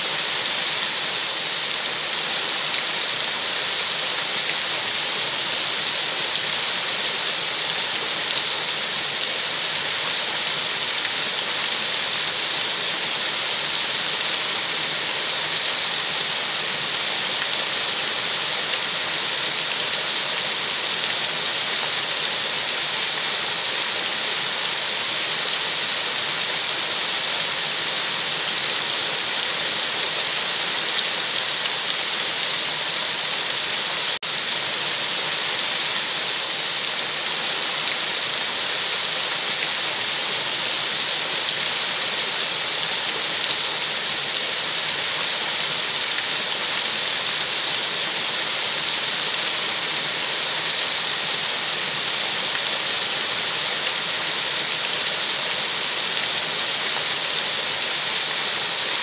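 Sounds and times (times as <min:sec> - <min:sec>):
water rushing over stone steps: 0:00.0 - 0:59.0.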